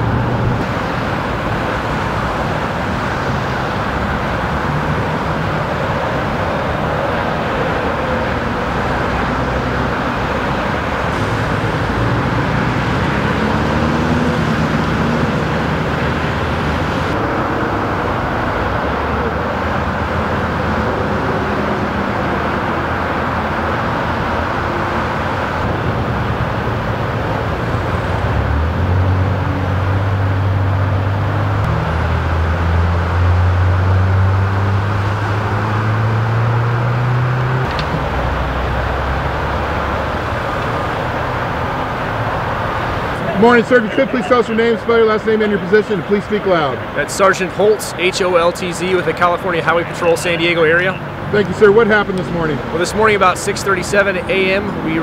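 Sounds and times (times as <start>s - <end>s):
deep engine hum: 0.0s - 47.0s
freeway traffic rushing: 0.0s - 55.0s.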